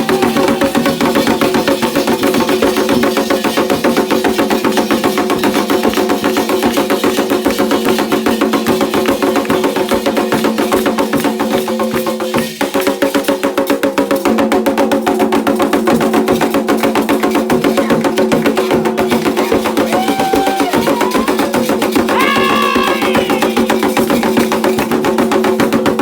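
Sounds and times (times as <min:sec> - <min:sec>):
fast ritual drumming: 0:00.0 - 0:26.0.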